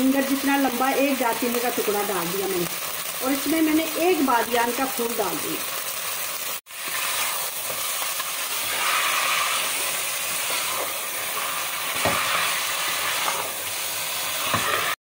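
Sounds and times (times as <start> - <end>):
chicken sizzling in a pot: 0.0 - 15.0.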